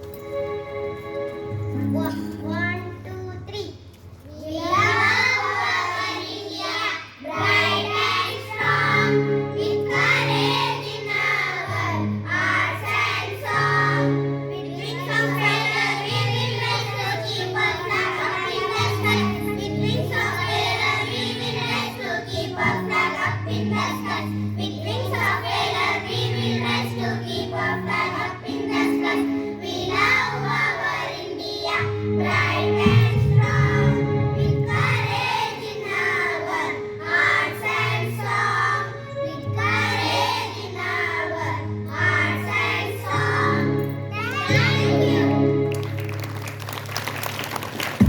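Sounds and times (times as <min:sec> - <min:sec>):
recorded backing music: 0:00.0 - 0:03.5, 0:07.4 - 0:48.0
children singing: 0:04.6 - 0:45.5.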